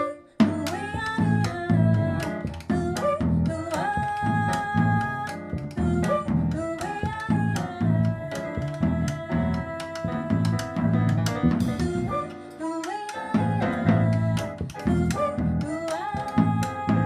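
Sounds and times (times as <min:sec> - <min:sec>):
piano: 0:00.0 - 0:17.0
double bass: 0:00.4 - 0:12.5, 0:13.4 - 0:17.0
drum kit: 0:00.4 - 0:17.0.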